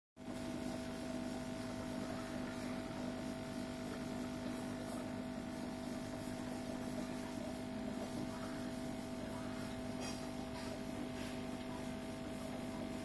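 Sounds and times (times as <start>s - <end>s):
aquarium equipment humming: 0.2s - 13.0s.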